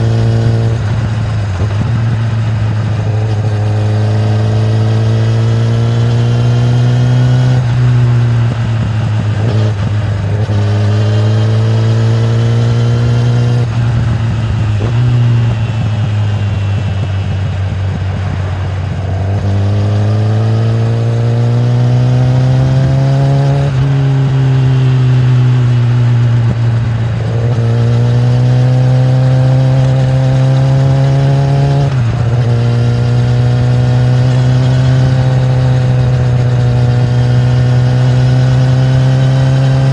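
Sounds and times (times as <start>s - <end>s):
wind rush: 0.0s - 39.7s
motorcycle engine under throttle: 0.0s - 39.9s.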